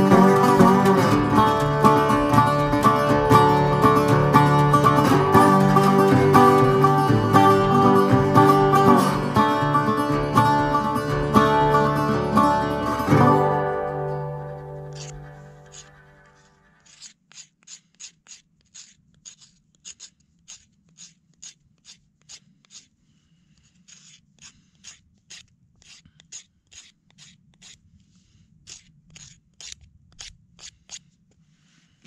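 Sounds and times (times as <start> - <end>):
knife shaving wooden stick: 0.0 - 13.5, 14.7 - 31.8.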